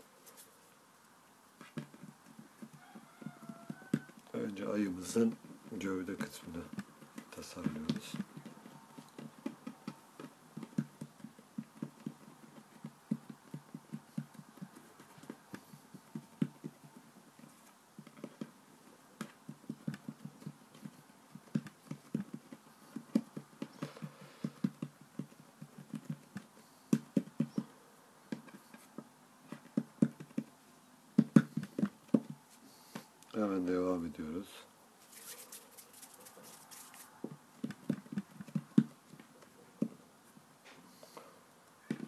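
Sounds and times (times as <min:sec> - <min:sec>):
fingertips tapping play dough: 0:00.0 - 0:34.0, 0:35.0 - 0:42.0.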